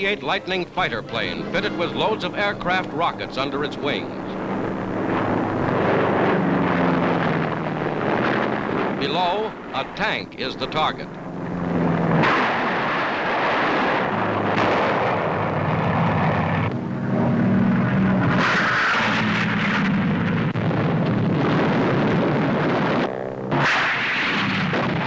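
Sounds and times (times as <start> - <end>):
propeller aircraft engines: 0.0 - 25.0.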